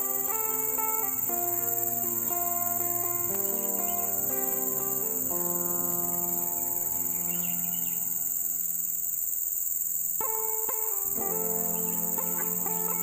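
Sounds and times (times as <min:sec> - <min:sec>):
slow background music: 0:00.0 - 0:09.4, 0:10.2 - 0:13.0
crickets chirping: 0:00.0 - 0:13.0.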